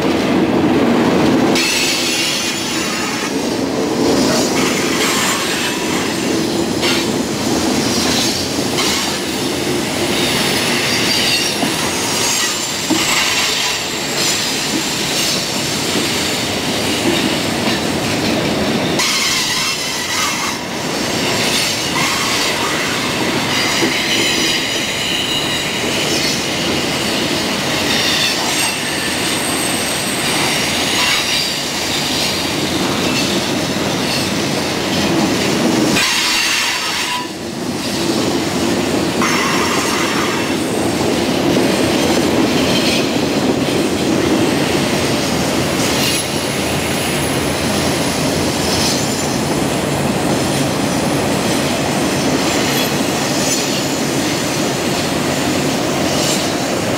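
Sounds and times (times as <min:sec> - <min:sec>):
steel wheels rumbling on rail: 0:00.0 - 0:56.9.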